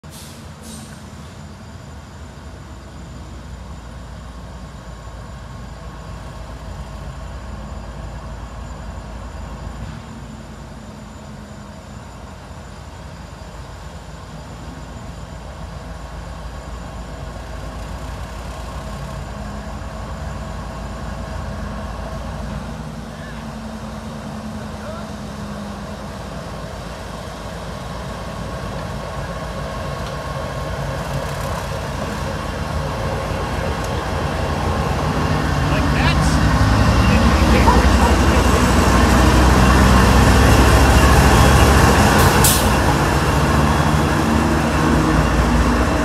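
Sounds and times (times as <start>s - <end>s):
diesel locomotive rumbling: 0.0s - 46.0s.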